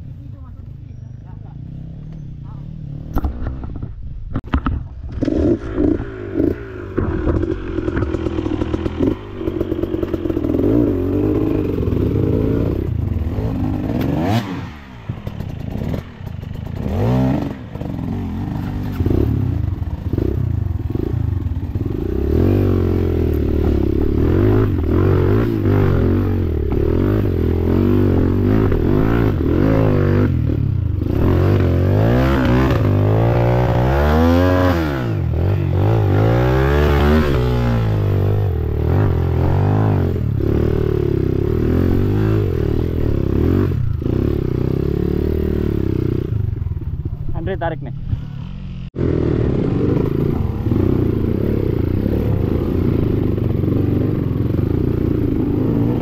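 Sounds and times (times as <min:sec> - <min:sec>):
dirt bike engine revving: 0:05.1 - 0:56.0.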